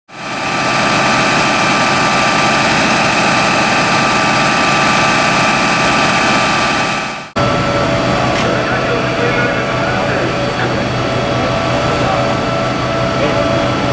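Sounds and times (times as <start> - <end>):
diesel engine running with whine: 0.1 - 13.9.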